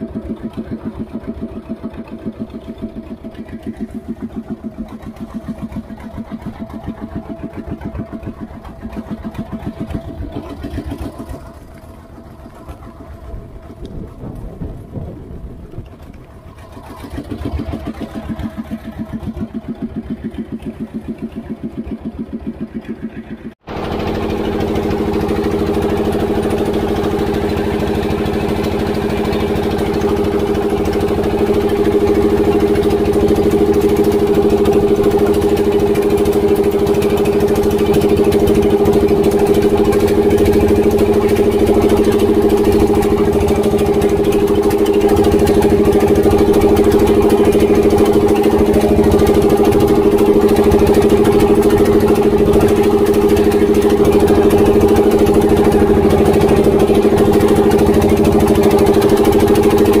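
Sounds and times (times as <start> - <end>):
diesel boat engine droning: 0.0 - 60.0
water rushing along hull: 0.0 - 60.0.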